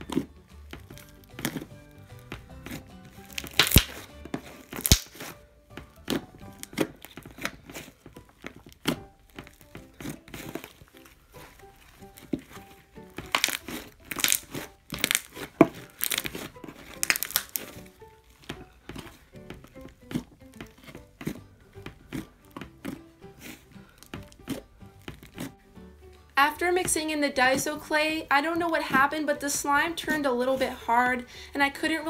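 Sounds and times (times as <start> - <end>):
slime squelching: 0.0 - 31.8
background music: 0.0 - 32.0.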